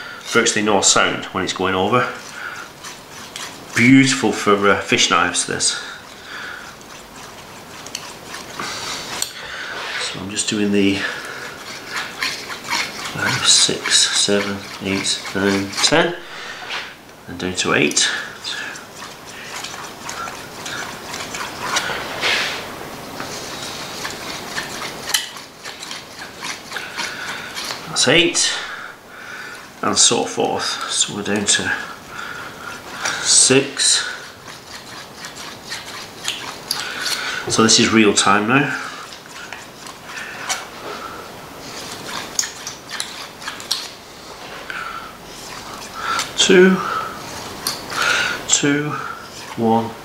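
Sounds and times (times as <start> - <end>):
knife scraping on sharpening stone: 1.2 - 17.0, 17.9 - 28.8, 30.0 - 49.6.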